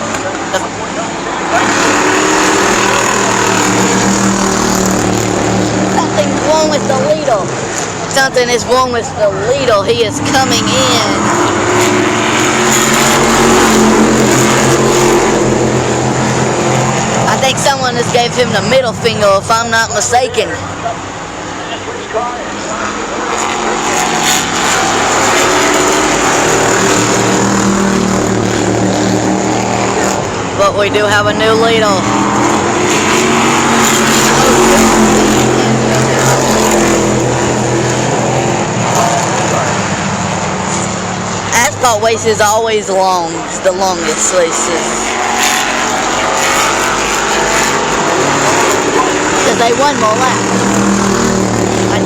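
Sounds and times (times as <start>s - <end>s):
race car engines droning: 0.0s - 52.0s.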